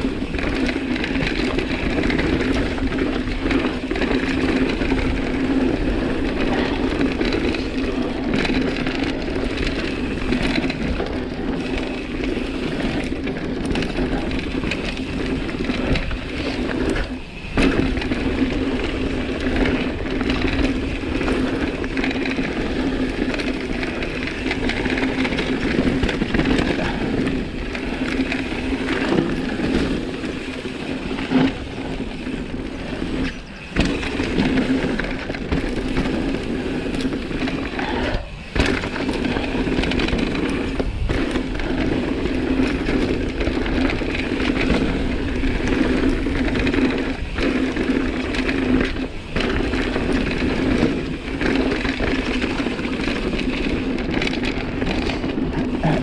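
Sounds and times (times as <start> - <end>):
bike tyres on dirt: 0.0 - 56.0
chain and frame rattling: 0.3 - 56.0.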